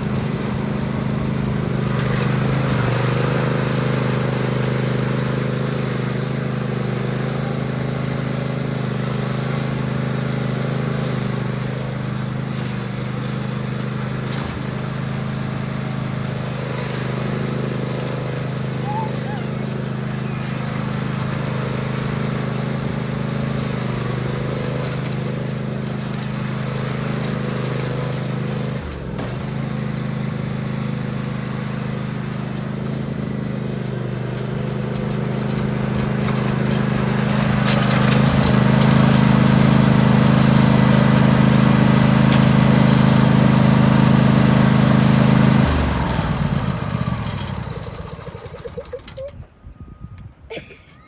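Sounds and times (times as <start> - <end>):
lawnmower engine running: 0.0 - 49.6.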